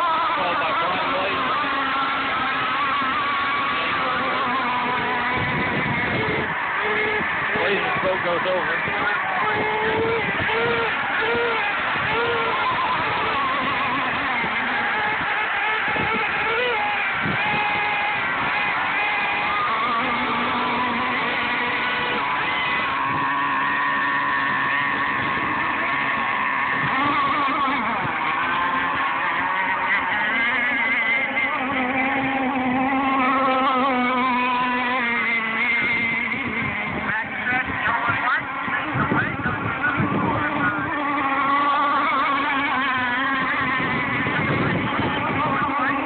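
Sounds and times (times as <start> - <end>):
small boat engines whining: 0.0 - 46.0.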